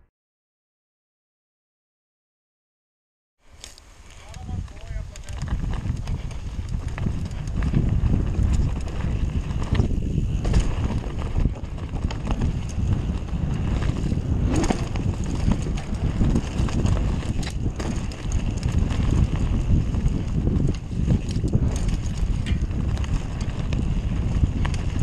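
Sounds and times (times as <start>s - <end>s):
wind buffeting microphone: 3.9s - 25.0s
bike knocks and rattles: 4.3s - 25.0s.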